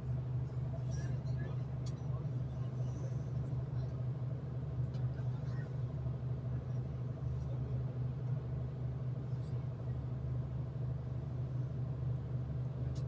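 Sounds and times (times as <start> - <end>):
diesel train rumbling on track: 0.0 - 13.0.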